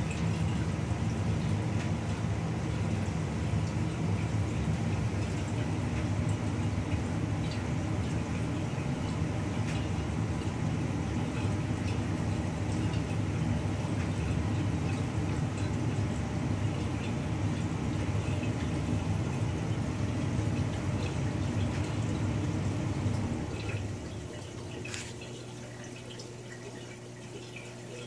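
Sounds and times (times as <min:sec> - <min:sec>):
aquarium filter humming: 0:00.0 - 0:28.0
water drips: 0:00.0 - 0:28.0
water trickling: 0:00.0 - 0:28.0.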